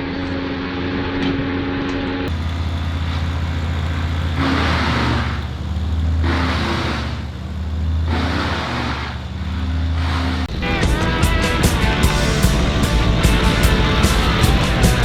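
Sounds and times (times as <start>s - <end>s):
large engine running: 2.3s - 15.0s
loud rushing bursts: 2.3s - 15.0s.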